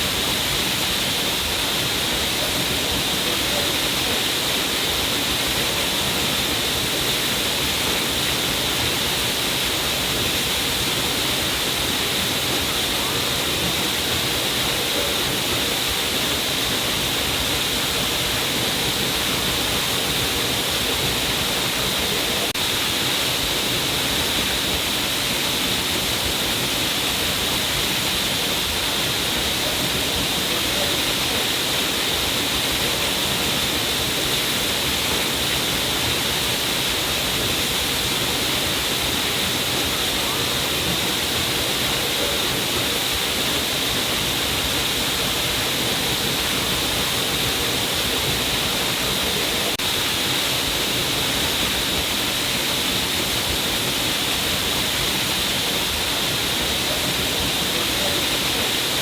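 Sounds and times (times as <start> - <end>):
water falling down cliff: 0.0 - 59.0.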